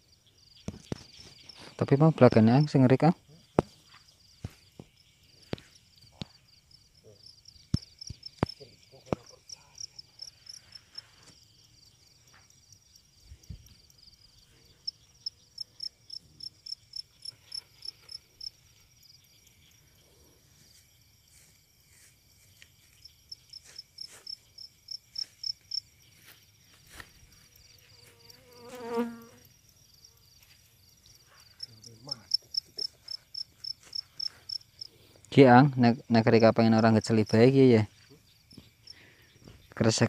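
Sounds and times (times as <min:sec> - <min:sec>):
cricket chirping: 0:00.0 - 0:40.0.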